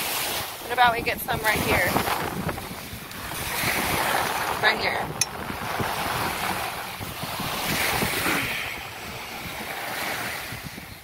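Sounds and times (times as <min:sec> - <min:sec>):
ocean surf: 0:00.0 - 0:11.0
wind buffeting microphone: 0:00.1 - 0:11.0.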